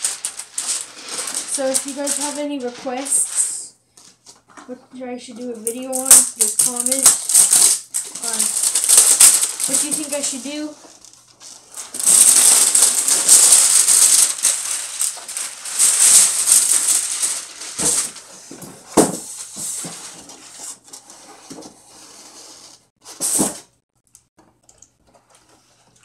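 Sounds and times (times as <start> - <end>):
cardboard rustling and scraping: 0.0 - 4.6, 6.7 - 23.8.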